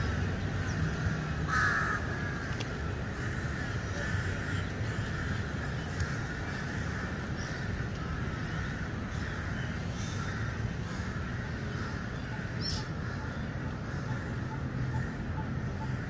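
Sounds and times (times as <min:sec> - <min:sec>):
bird calls: 0:00.0 - 0:16.0.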